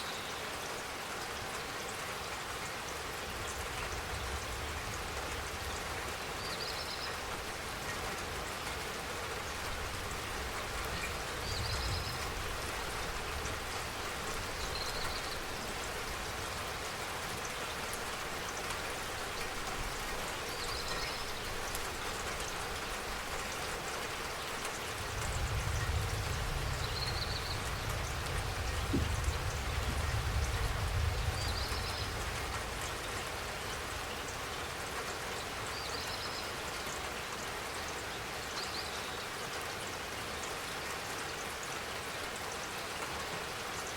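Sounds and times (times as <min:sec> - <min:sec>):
rain pattering: 0:00.2 - 0:43.9.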